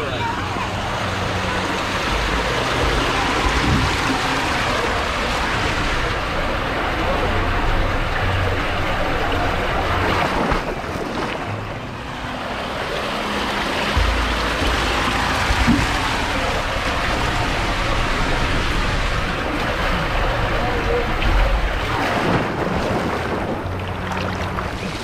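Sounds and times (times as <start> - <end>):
water rushing through slide tube: 0.0 - 25.0.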